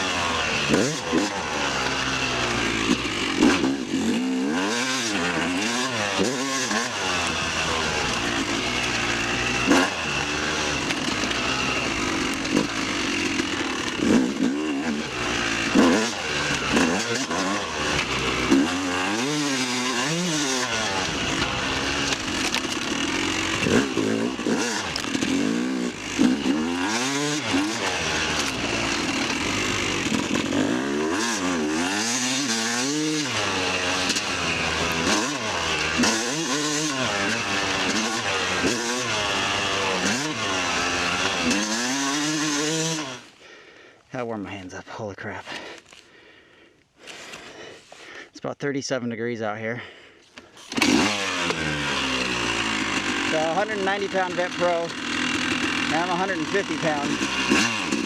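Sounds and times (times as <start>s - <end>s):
dirt bike engine revving: 0.0s - 45.9s, 49.8s - 58.0s.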